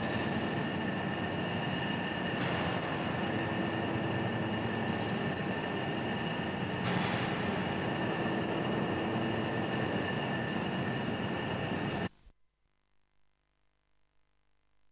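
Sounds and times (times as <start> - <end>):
crane mechanical hum and whine: 0.0 - 12.1.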